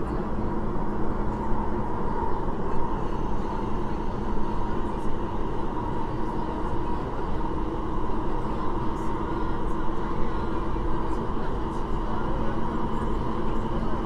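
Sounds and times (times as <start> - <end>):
faint steady hum: 0.0 - 14.0
train interior rumble and rushing: 0.0 - 14.0.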